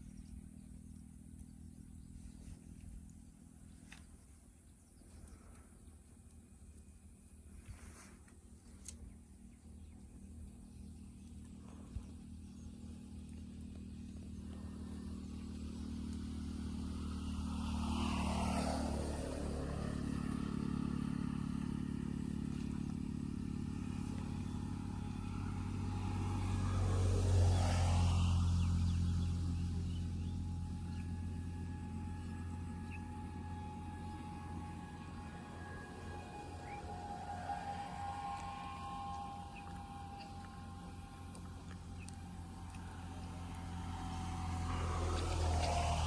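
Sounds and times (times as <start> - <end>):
vehicles passing by: 0.0 - 46.0.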